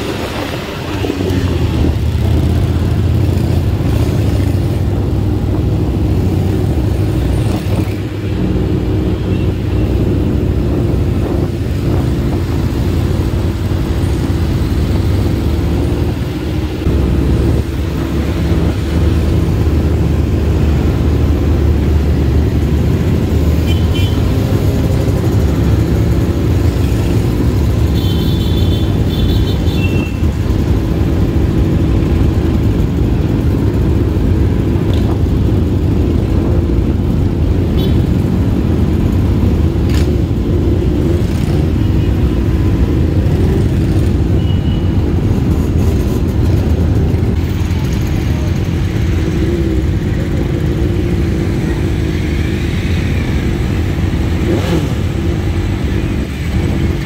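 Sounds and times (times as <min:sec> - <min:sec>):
motorcycle engines rumbling: 0:00.0 - 0:57.0.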